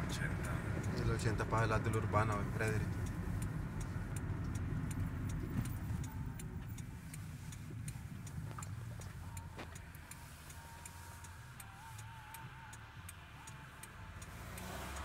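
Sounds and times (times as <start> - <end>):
car engine and tyres rumble: 0.0 - 15.0
turn-signal indicator ticking: 0.0 - 15.0.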